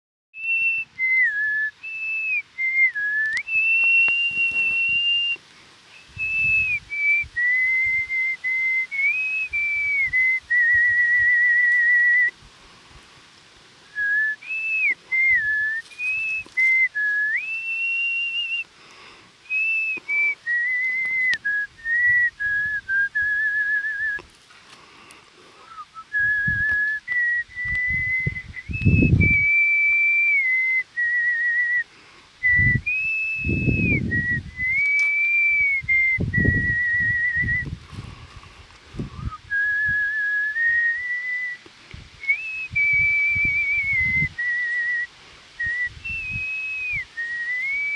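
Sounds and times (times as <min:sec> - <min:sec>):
person whistling a melody: 0:00.4 - 0:05.4, 0:06.0 - 0:12.4, 0:13.9 - 0:18.7, 0:19.5 - 0:24.3, 0:25.6 - 0:38.2, 0:39.0 - 0:47.9.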